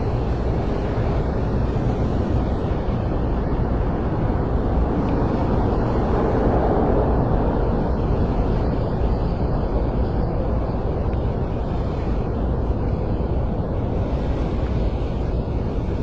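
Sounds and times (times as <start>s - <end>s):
rumbling ambient noise: 0.0s - 16.0s.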